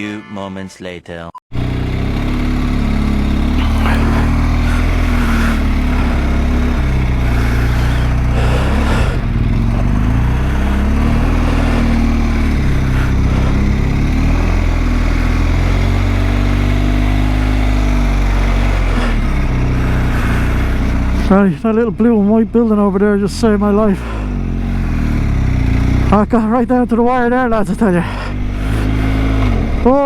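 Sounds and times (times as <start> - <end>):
motorcycle engine revving: 1.5 - 30.0.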